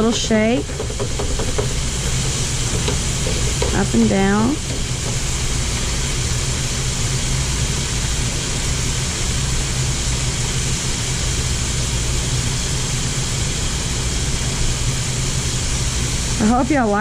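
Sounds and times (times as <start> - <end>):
shrimp sizzling in hot oil: 0.0 - 17.0.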